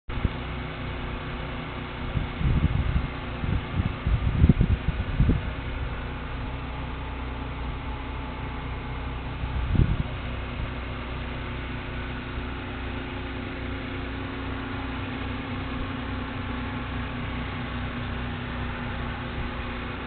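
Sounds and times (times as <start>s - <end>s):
low machine hum: 0.1s - 20.0s.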